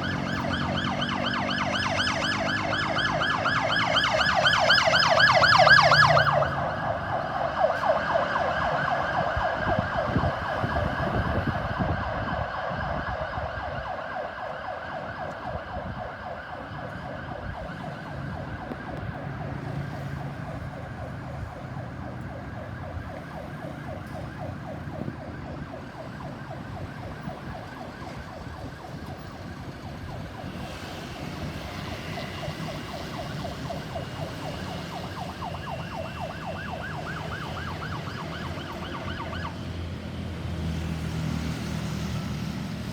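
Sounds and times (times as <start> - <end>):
ambulance siren warbling: 0.0 - 42.4
low traffic rumble: 0.0 - 42.9.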